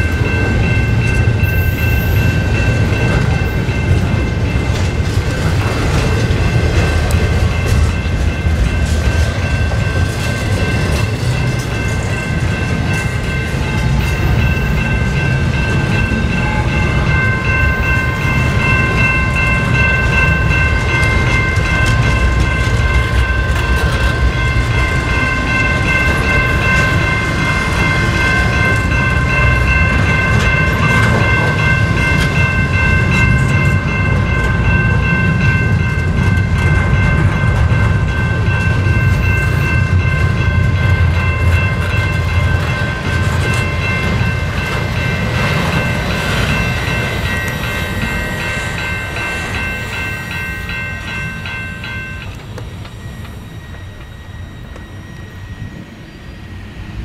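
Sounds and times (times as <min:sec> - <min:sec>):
high-pitched ringing tone: 0:00.0 - 0:05.0, 0:05.9 - 0:57.0
train wheels rumbling on rails: 0:00.0 - 0:57.0.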